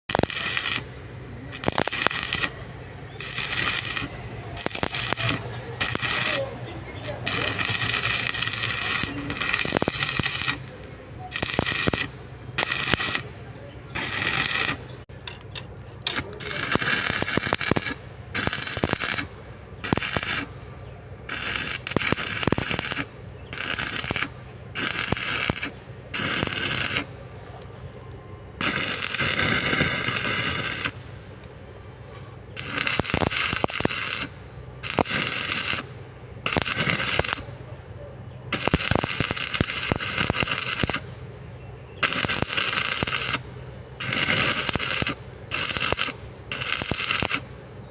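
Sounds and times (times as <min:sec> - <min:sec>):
arc welding crackling hiss: 0:00.1 - 0:02.6, 0:03.2 - 0:15.0, 0:16.1 - 0:20.7, 0:21.3 - 0:27.4, 0:28.6 - 0:31.4, 0:32.5 - 0:37.6, 0:38.5 - 0:41.2, 0:42.0 - 0:47.9
steady low hum: 0:00.1 - 0:47.9.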